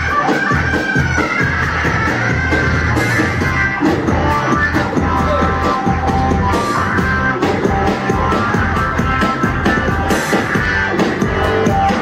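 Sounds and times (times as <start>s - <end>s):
drum machine steady beat: 0.0s - 12.0s.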